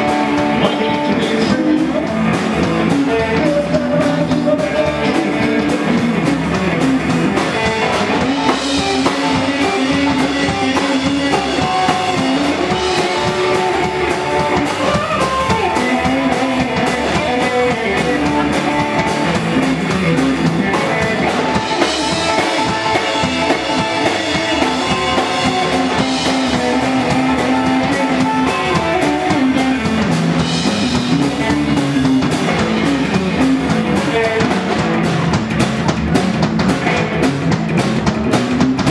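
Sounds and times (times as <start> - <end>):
electric guitar: 0.0 - 38.9
rock and roll band playing: 0.0 - 38.9.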